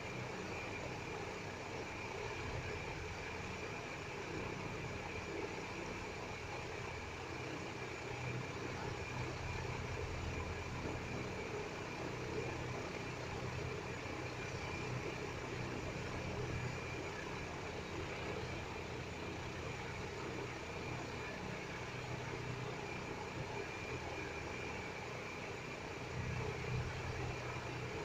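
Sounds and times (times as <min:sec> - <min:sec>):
faint high-pitched whine: 0:00.0 - 0:28.0
steady low hum: 0:00.0 - 0:28.0.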